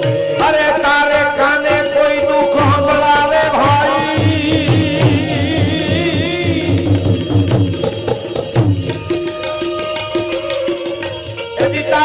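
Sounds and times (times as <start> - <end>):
rattling hand percussion: 0.0 - 12.0
tabla rhythm: 0.0 - 12.0.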